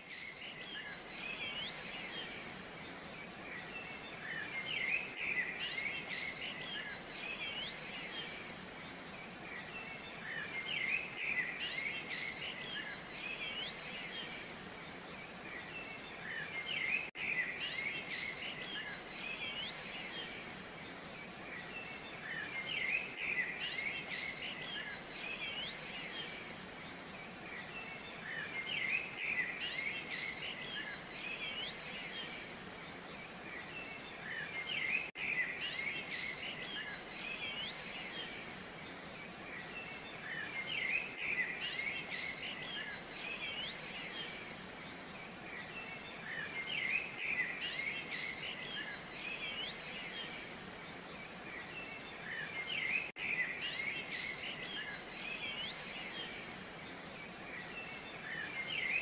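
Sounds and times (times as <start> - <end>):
small birds chirping and whistling: 0.0 - 59.0
steady background hiss: 0.0 - 59.0.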